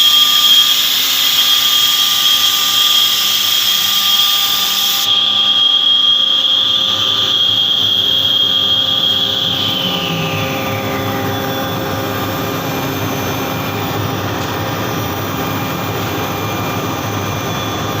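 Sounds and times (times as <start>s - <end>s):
high-pitched motor whine: 0.0s - 18.0s
machine mechanical hum: 0.0s - 18.0s.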